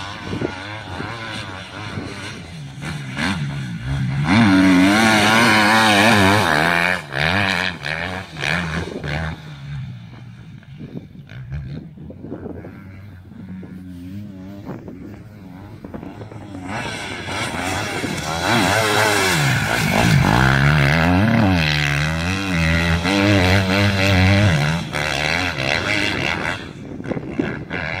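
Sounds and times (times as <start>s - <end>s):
motocross bike engine: 0.0s - 28.0s.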